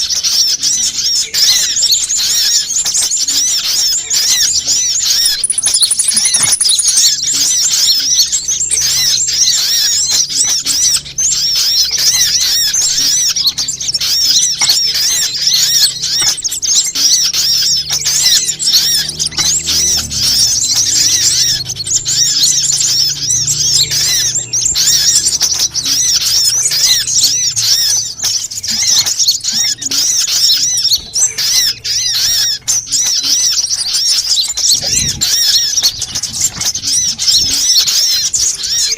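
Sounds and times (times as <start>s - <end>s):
sunbirds chirping and twittering: 0.0s - 38.9s.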